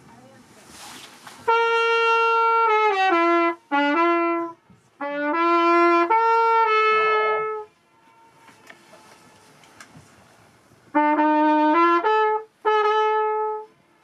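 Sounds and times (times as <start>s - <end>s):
flugelhorn slow melody: 1.4s - 9.6s, 10.9s - 14.0s.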